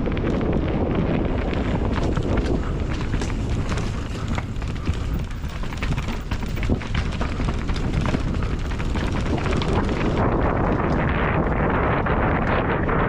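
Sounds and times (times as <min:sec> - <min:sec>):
bike rattling and knocking: 0:00.0 - 0:11.1
tyres rumbling over dirt: 0:00.1 - 0:11.0.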